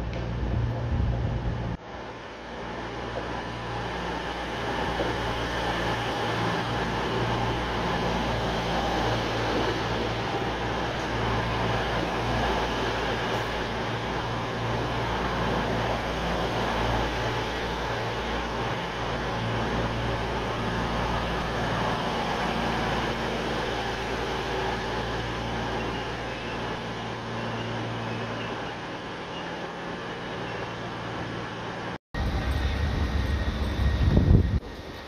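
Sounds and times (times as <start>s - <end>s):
diesel train engine humming: 0.0s - 35.0s.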